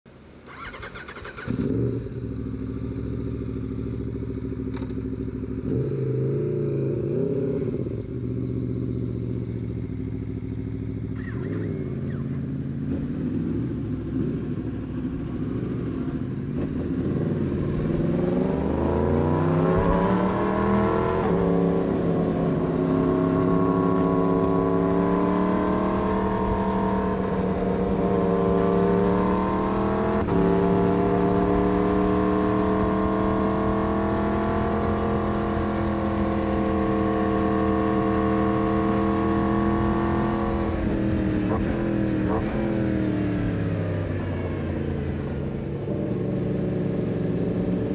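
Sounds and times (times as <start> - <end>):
motorcycle engine revving and accelerating: 0.5 - 47.9.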